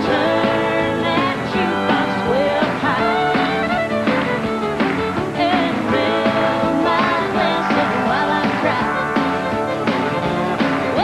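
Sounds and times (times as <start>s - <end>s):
person singing: 0.0s - 4.2s, 5.3s - 11.0s
country band playing: 0.0s - 11.0s.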